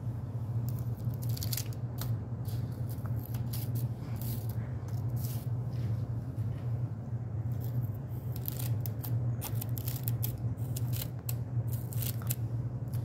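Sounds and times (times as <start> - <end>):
steady low hum: 0.0 - 13.0
meringue cookies crackling: 0.6 - 5.5, 7.4 - 13.0
parchment paper rustling: 0.7 - 6.0, 7.5 - 13.0.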